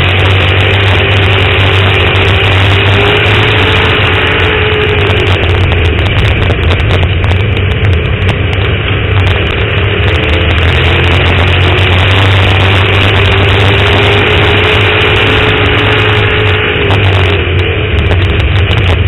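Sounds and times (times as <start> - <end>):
engine whine: 0.0 - 19.0
race car engine drone: 0.0 - 19.0.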